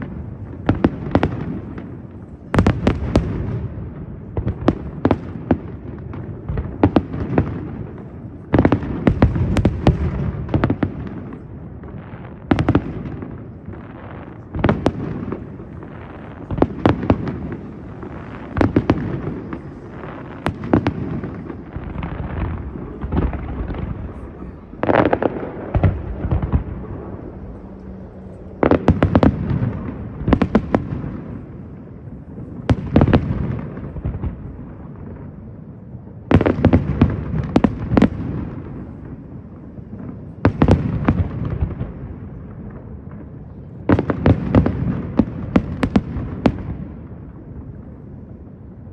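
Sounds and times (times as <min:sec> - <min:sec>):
fireworks bursting with rumble: 0:00.0 - 0:48.9.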